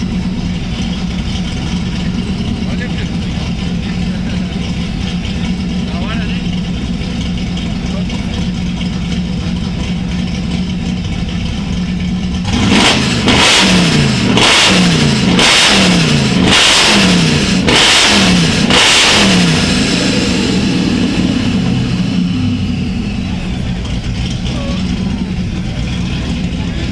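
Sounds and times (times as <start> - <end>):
car engine idling and revving: 0.0 - 26.9.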